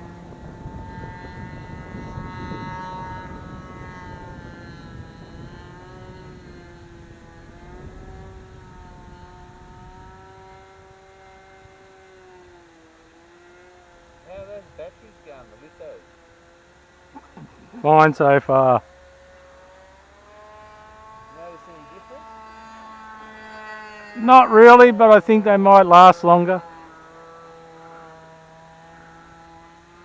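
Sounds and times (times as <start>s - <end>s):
model plane engine buzzing: 0.0s - 30.0s.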